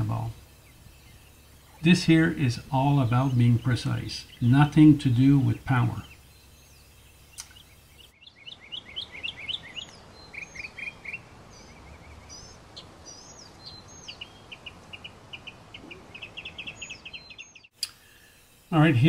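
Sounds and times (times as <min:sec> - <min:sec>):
songbirds chirping: 0:00.0 - 0:19.0
steady outdoor hiss: 0:00.0 - 0:19.0.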